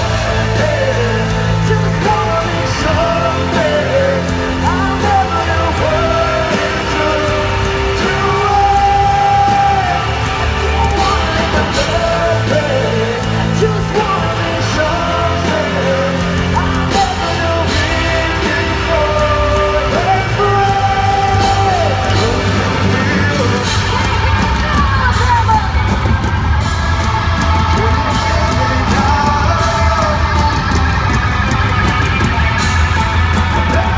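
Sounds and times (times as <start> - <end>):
bass guitar: 0.0 - 33.9
distorted electric guitars: 0.0 - 33.9
people singing and shouting: 0.0 - 33.9
pounding drums: 0.0 - 33.9.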